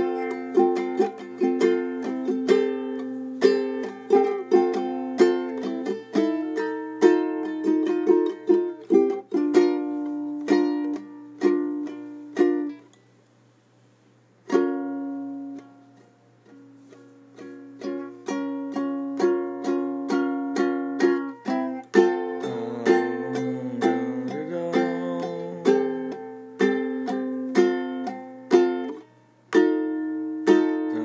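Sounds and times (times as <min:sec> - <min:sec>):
plucked string instrument notes: 0:00.0 - 0:13.0, 0:14.4 - 0:31.0.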